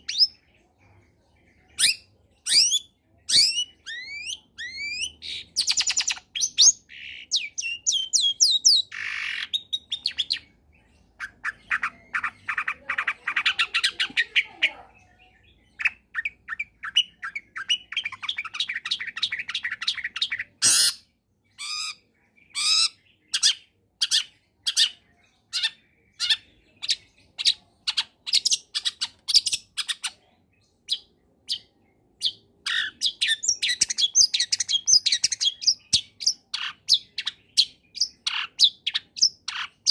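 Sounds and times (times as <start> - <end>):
bird singing trills and chatter: 0.0 - 39.9.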